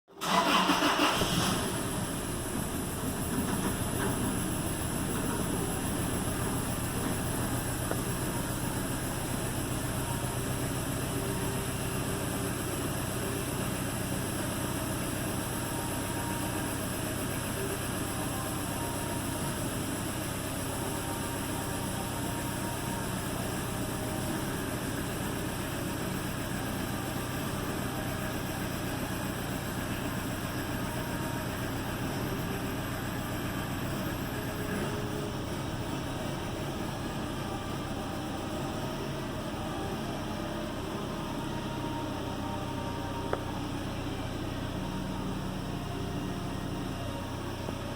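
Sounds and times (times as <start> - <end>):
engine idling with misfire: 0.1 - 47.9.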